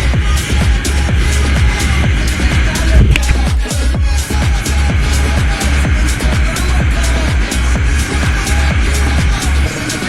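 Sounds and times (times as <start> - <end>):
deep kick drums: 0.0 - 9.4
electronic dance music: 0.0 - 10.0
heavy bass: 0.0 - 10.0
hi-hats: 0.0 - 10.0.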